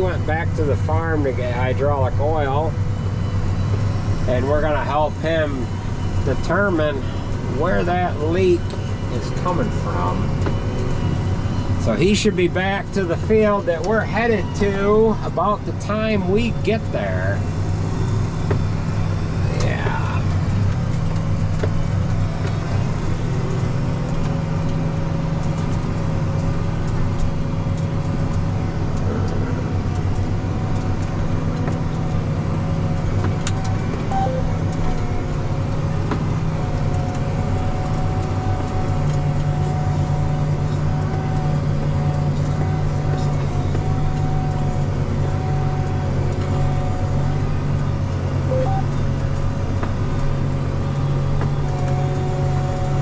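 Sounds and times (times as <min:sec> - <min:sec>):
faint steady whine: 0:00.0 - 0:43.9
tractor diesel engine droning: 0:00.0 - 0:53.0.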